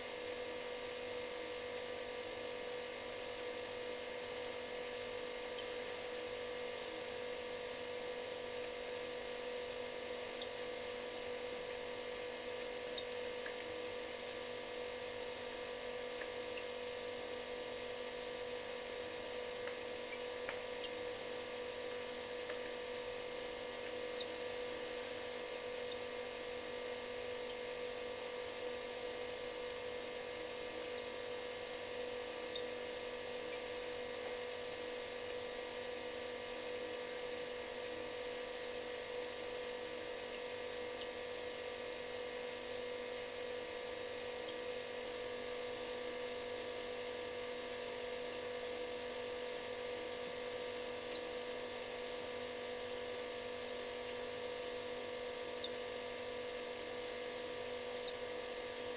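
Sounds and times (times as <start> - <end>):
refrigerator humming: 0.0 - 58.9.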